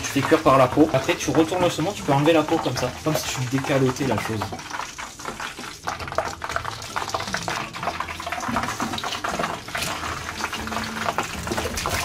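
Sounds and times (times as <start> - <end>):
hot oil frying crackle: 0.0 - 12.0.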